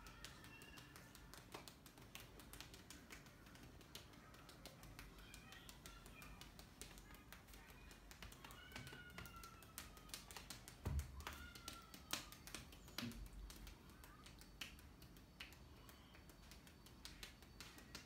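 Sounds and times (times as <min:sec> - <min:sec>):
fists patting a back: 0:00.0 - 0:18.0.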